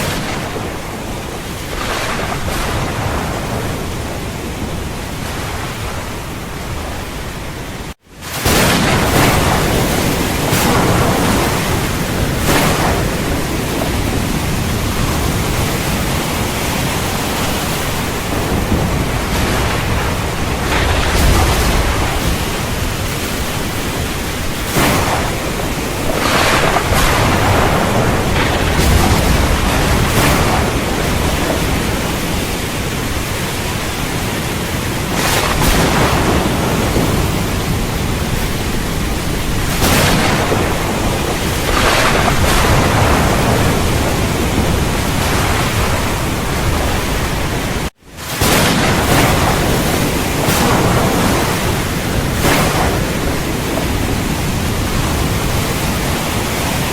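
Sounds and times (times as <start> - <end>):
heavy rain: 0.0 - 56.9
thunder cracking and rumbling: 0.0 - 56.9.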